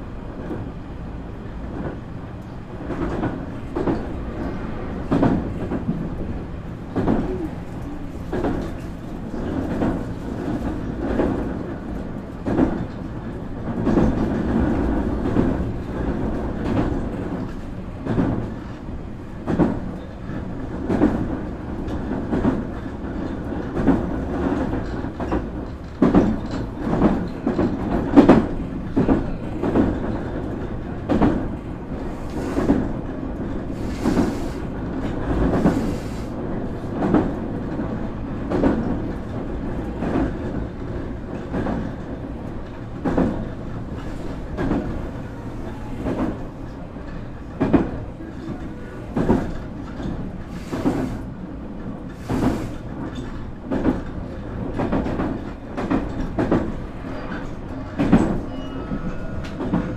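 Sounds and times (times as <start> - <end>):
train running rumble: 0.0 - 59.9
train wheels clacking over rail joints: 1.8 - 59.9.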